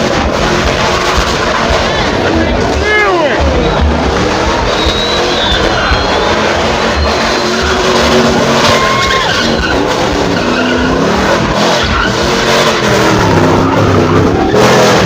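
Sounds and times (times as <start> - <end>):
car engine revving: 0.0 - 15.0
tires squealing: 0.0 - 15.0.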